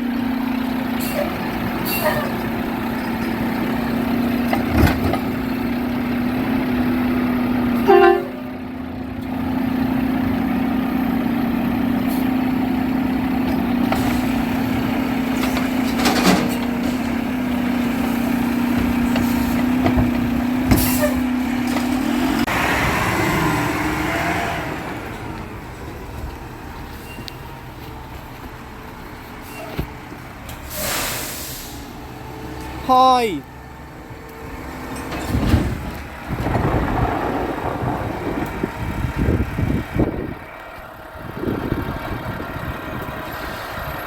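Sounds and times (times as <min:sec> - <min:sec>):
garbage truck engine hum: 0:00.0 - 0:44.0.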